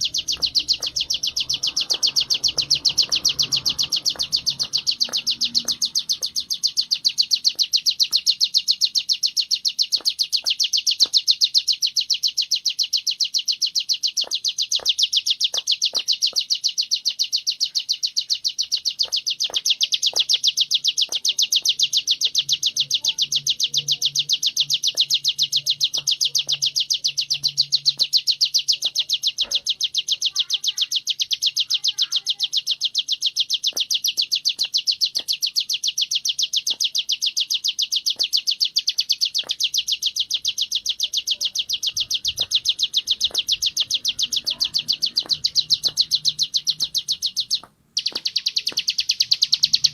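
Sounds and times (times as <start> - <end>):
bird trilling: 0.0 - 49.9.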